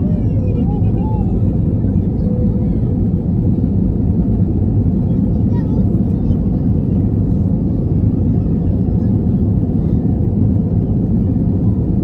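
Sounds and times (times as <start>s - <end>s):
jet engines and airflow rumble: 0.0s - 12.0s.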